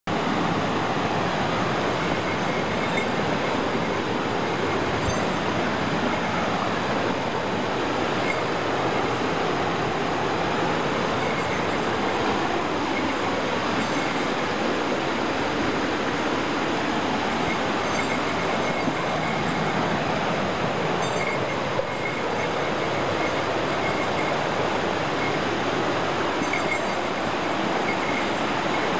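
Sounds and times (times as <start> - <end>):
waterfall rushing: 0.1 - 28.9.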